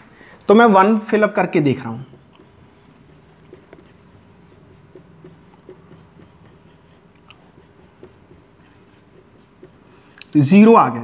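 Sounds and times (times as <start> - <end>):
low steady hum: 0.0 - 11.0
marker pen scratching on whiteboard: 0.5 - 11.0.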